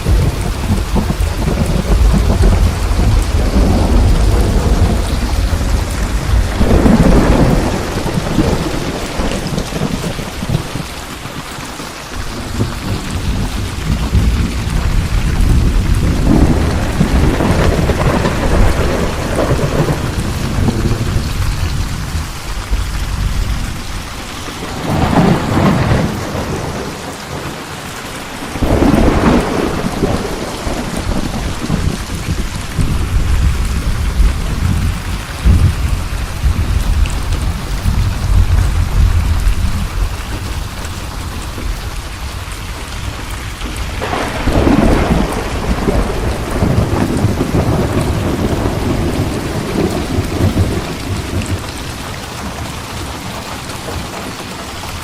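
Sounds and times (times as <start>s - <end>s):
rolling thunder: 0.0s - 11.2s, 12.2s - 27.6s, 28.2s - 54.1s
heavy rain: 0.0s - 55.0s.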